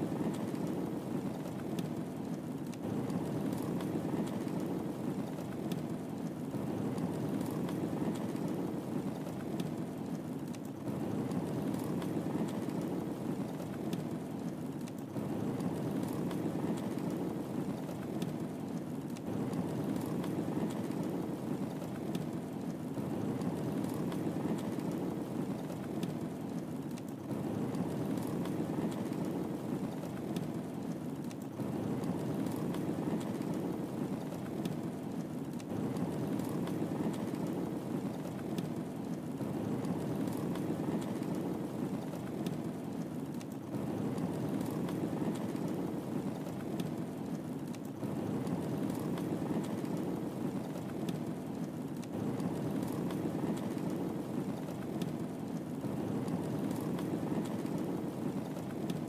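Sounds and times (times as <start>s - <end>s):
fire crackling and popping: 0.0s - 59.0s
fire flames rushing: 0.0s - 59.0s.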